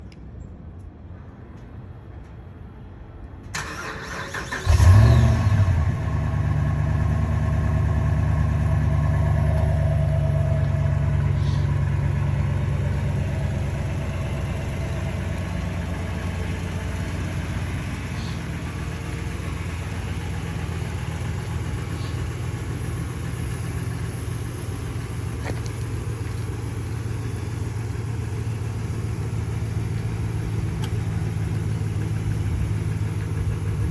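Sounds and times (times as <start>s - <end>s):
pickup truck engine starting and idling: 3.4s - 33.9s.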